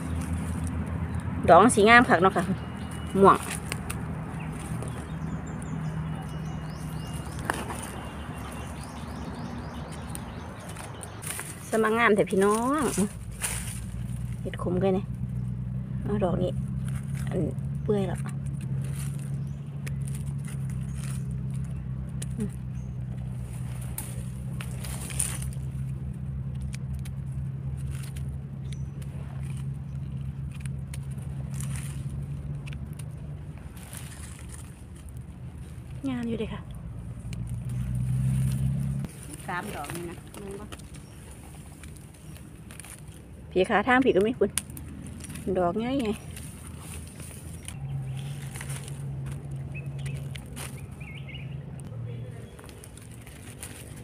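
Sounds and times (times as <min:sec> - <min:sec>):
dry leaves crackling: 0:00.0 - 0:54.0.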